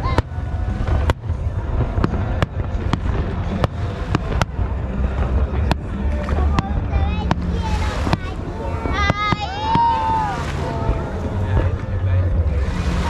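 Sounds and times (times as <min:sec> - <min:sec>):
fireworks bangs and cracks: 0:00.0 - 0:12.0
deep rumble: 0:00.0 - 0:13.0.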